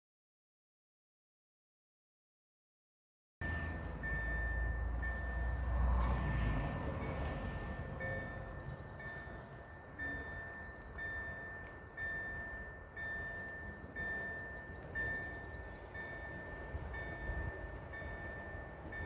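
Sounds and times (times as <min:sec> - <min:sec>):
level crossing warning bell: 0:03.4 - 0:19.0.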